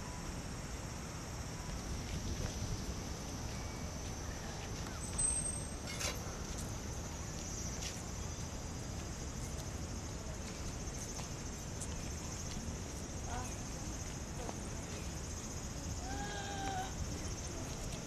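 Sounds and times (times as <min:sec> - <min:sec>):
cicadas buzzing: 0:00.0 - 0:18.0
low wind rumble: 0:00.0 - 0:18.0.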